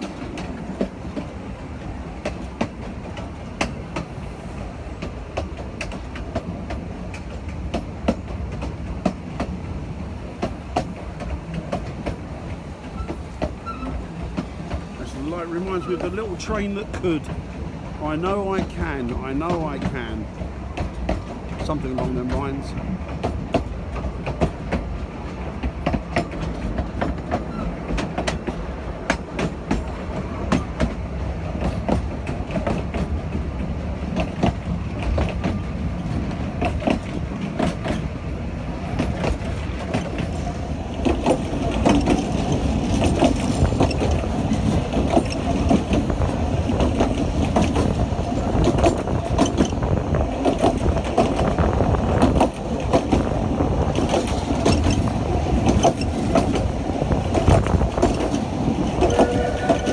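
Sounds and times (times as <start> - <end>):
steam train rumbling: 0.0 - 59.9
wheels clicking over rail joints: 0.0 - 59.9.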